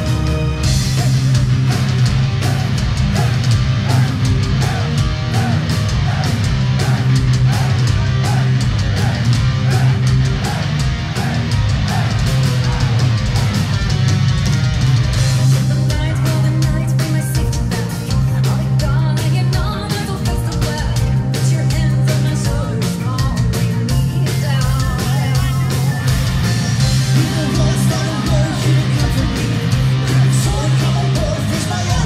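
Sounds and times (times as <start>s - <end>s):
heavy metal band playing live: 0.0s - 32.0s.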